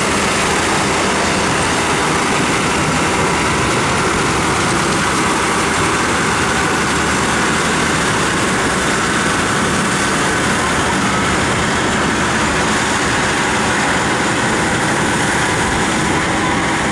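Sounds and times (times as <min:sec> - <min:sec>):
diesel locomotive idling: 0:00.0 - 0:16.9.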